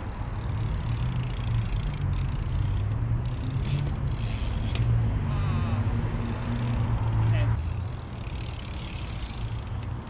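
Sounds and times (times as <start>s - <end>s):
bike tyres rolling: 0.0s - 5.0s, 6.1s - 10.0s.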